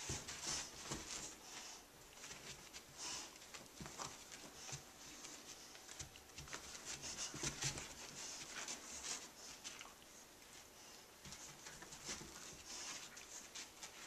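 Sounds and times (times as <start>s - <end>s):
dogs scuffling on carpet: 0.0s - 14.0s.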